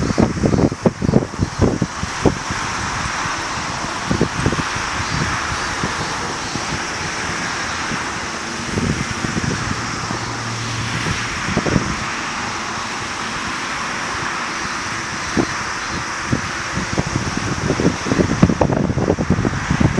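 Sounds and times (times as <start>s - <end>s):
distant jet engine: 0.0s - 19.9s
wind gusting on microphone: 0.0s - 19.9s.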